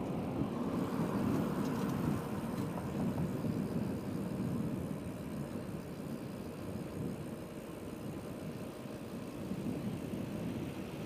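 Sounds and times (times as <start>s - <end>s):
bicycle tyre noise: 0.0s - 11.0s
road traffic: 0.0s - 11.0s.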